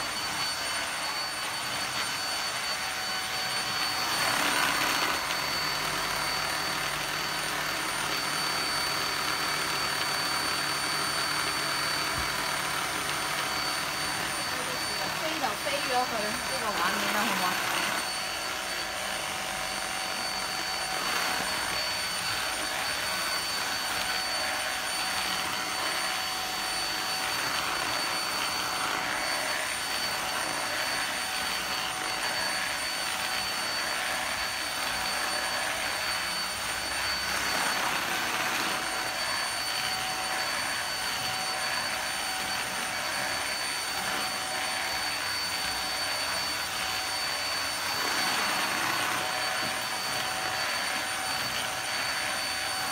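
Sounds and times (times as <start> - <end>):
handheld vacuum cleaner running: 0.0 - 52.9.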